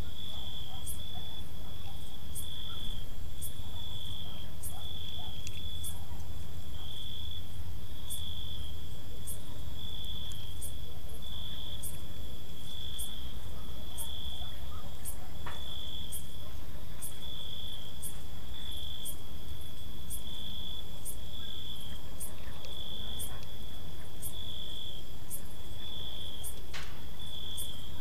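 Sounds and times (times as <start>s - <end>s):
cricket trilling: 0.0s - 28.0s.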